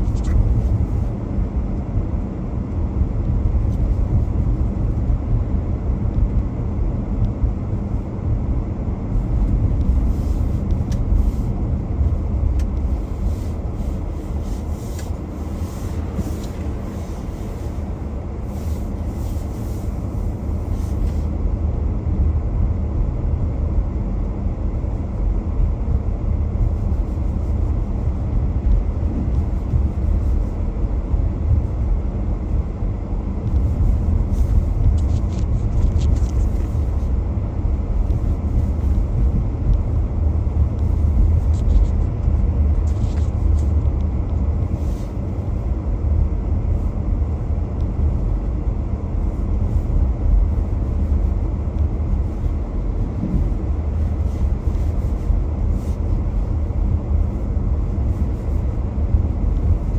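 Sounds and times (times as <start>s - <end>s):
car road rumble: 0.0s - 59.9s.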